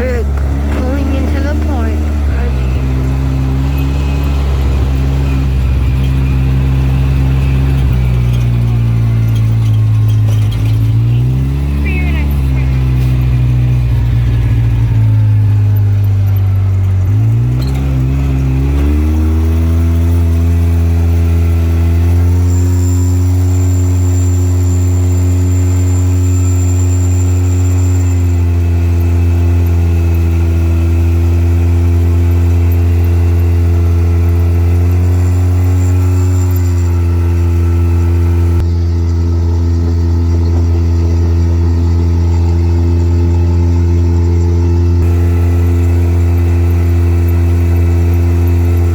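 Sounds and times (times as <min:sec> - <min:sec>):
off-road vehicle engine running: 0:00.0 - 0:48.9.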